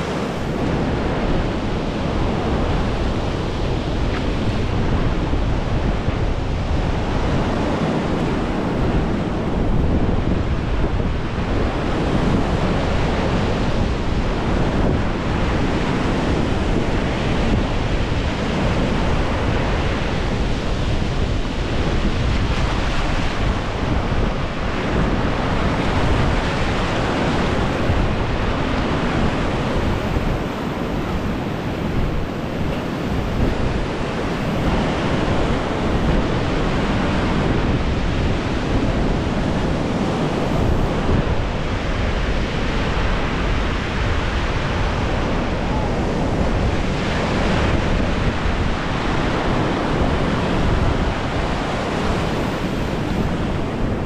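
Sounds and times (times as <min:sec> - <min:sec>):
surf washing onto sand: 0:00.0 - 0:54.0
wind buffeting microphone: 0:00.0 - 0:54.0.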